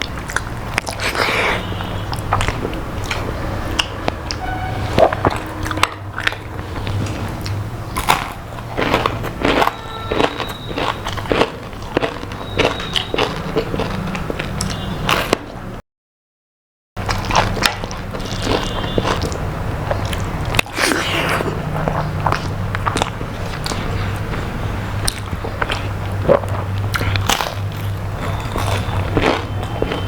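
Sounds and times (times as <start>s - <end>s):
person chewing crunchy food: 0.0s - 15.5s, 17.0s - 30.0s.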